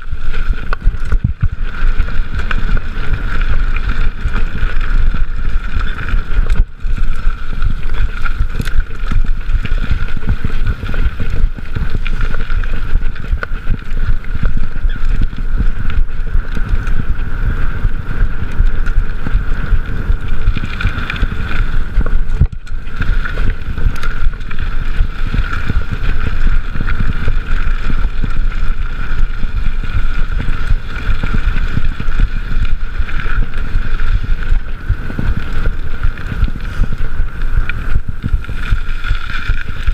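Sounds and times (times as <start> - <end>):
bike tyres rumbling on dirt: 0.0 - 39.9
wind buffeting microphone: 0.0 - 39.9.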